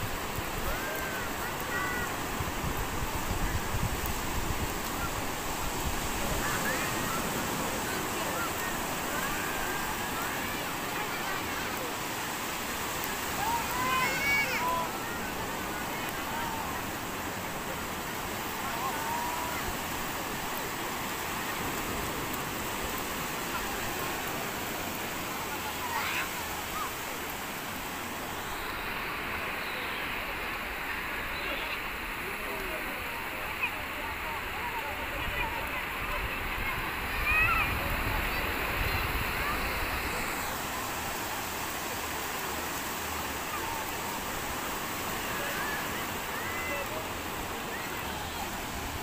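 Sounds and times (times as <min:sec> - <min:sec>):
ocean surf breaking on beach: 0:00.0 - 0:49.0.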